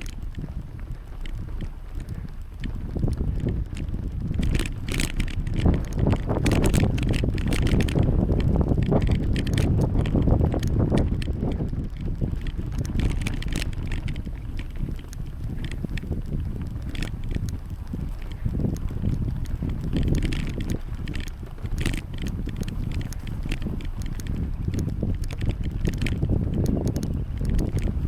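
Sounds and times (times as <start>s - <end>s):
bicycle rattling and clicking: 0.0s - 28.0s
wind buffeting microphone: 0.0s - 28.0s.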